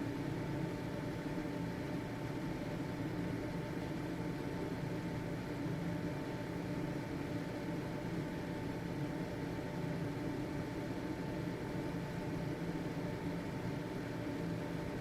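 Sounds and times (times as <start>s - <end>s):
ventilation fan running: 0.0s - 15.0s.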